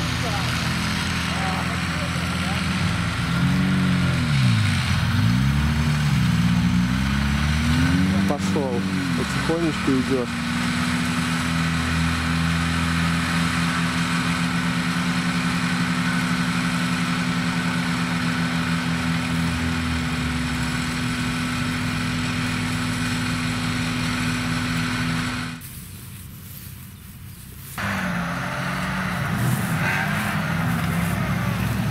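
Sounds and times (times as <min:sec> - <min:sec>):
car engine running low: 0:00.0 - 0:31.9.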